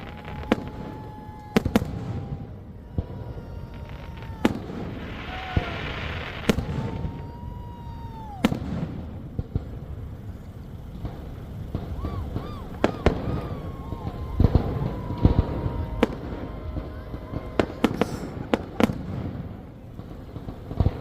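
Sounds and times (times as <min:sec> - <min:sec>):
fireworks banging: 0:00.0 - 0:21.0
fireworks crackling: 0:00.0 - 0:21.0
fireworks whistling: 0:00.0 - 0:21.0.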